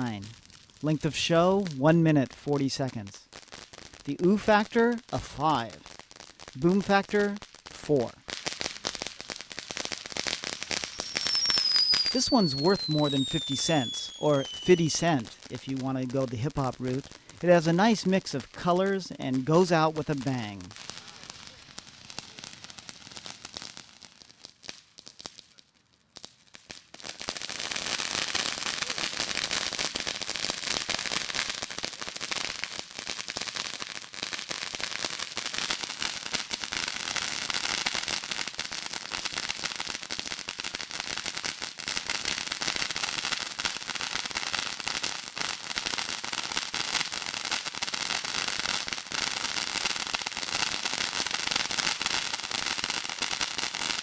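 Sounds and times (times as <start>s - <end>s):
firework fountain crackling: 0.0s - 54.0s.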